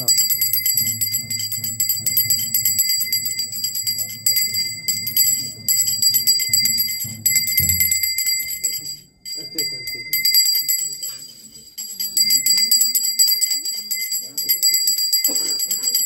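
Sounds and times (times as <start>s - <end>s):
temple bell ringing: 0.0s - 16.0s.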